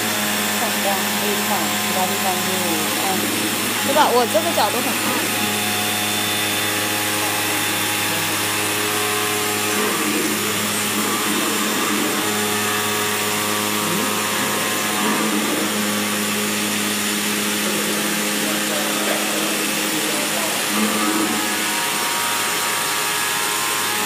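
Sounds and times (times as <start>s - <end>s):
cutting machine humming with hiss: 0.0s - 24.0s.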